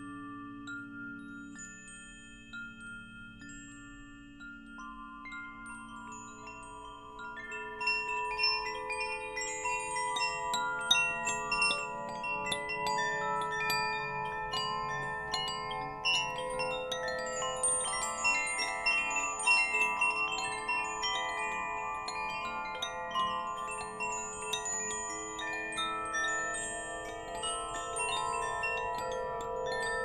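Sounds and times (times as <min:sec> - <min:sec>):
wind chimes ringing: 0:00.0 - 0:30.0.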